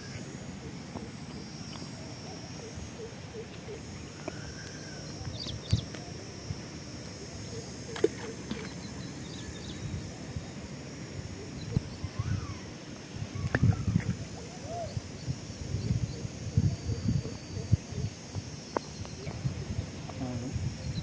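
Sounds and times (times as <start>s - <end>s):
faint chirps: 0.0s - 21.0s
high-pitched drone: 0.0s - 21.0s.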